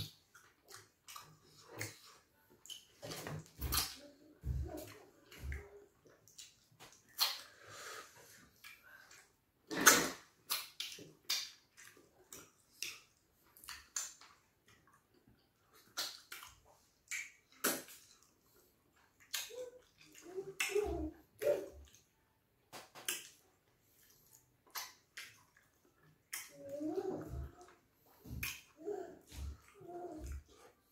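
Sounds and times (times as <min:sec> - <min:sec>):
wet eating smacks: 0:00.0 - 0:07.7, 0:08.5 - 0:22.1, 0:22.7 - 0:30.8.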